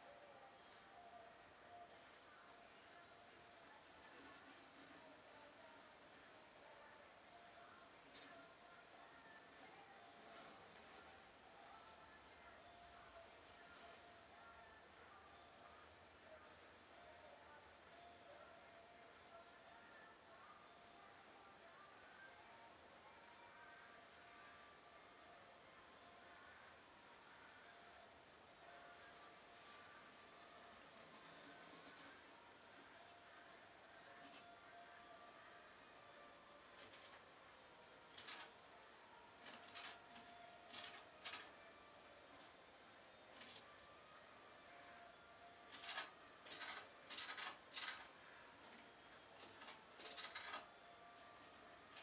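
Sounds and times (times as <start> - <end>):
faint high-pitched whine: 0.0 - 52.0
insect chirping: 0.0 - 52.0.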